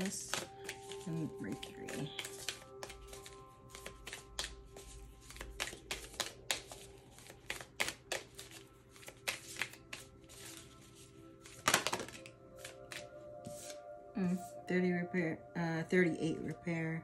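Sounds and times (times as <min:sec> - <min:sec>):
cards being shuffled: 0:00.0 - 0:13.8
soft background music: 0:00.0 - 0:17.0.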